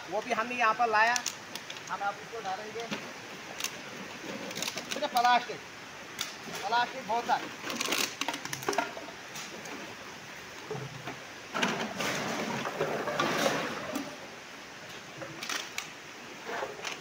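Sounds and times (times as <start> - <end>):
plastic waste rustling and crackling: 0.1 - 17.0.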